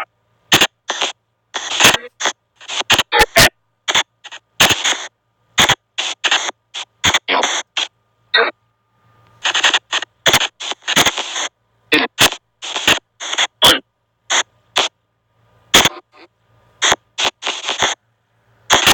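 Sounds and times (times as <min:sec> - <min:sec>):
short noisy bursts from phone: 0:00.0 - 0:08.6, 0:09.4 - 0:15.0, 0:15.7 - 0:18.0, 0:18.7 - 0:18.9.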